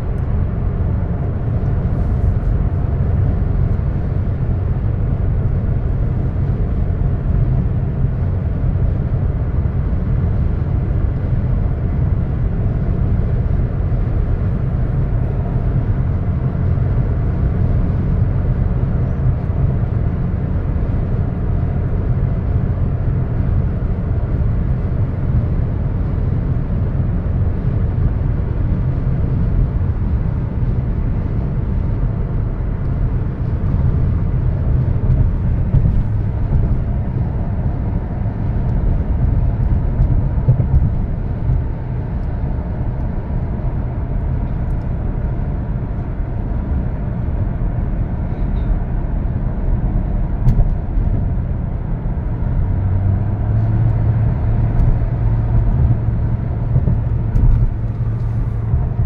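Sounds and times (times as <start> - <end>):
car engine hum: 0.0 - 59.0.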